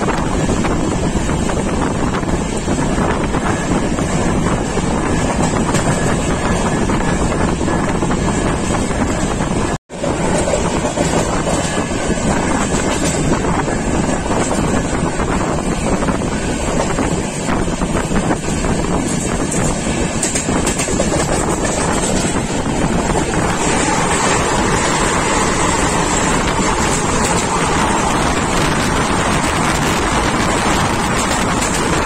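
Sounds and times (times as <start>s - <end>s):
train rumble: 0.0s - 32.0s
wind buffeting microphone: 0.0s - 32.0s.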